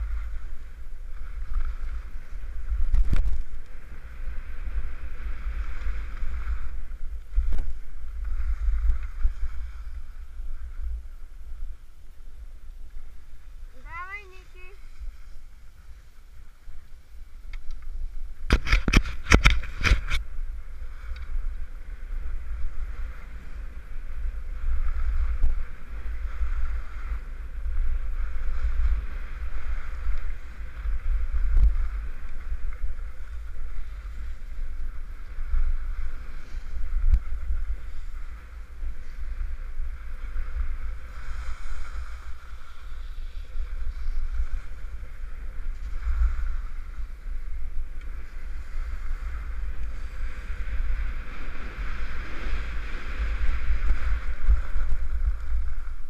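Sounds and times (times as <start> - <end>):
skis sliding on packed snow: 0.0 - 56.0
wind buffeting microphone: 0.0 - 56.0.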